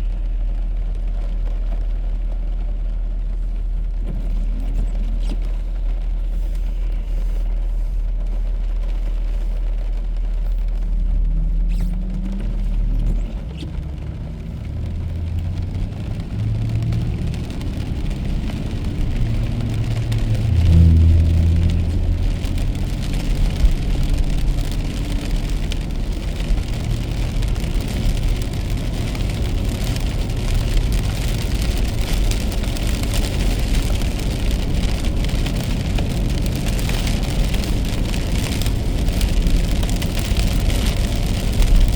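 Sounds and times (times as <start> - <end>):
car engine and road rumble: 0.0 - 41.9
rain and wet tyres hissing: 0.0 - 41.9.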